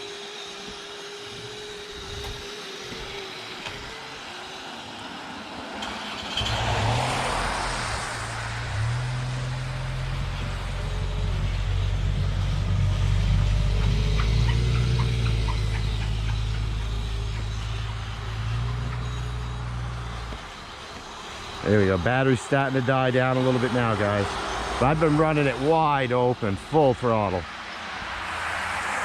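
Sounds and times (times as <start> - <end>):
electric motor whine: 0.0 - 29.0
low steady engine-like hum: 0.0 - 29.0.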